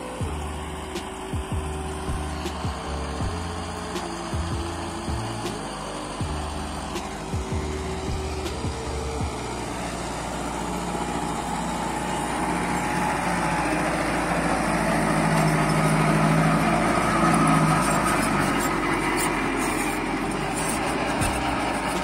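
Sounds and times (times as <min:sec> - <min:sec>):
rotavator churning soil: 0:00.0 - 0:22.0
tractor diesel engine under load: 0:00.0 - 0:22.0.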